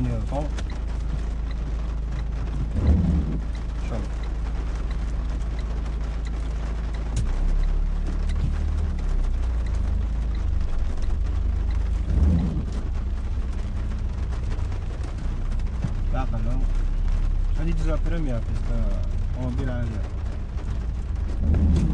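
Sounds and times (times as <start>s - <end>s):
car engine hum inside cabin: 0.0s - 21.9s.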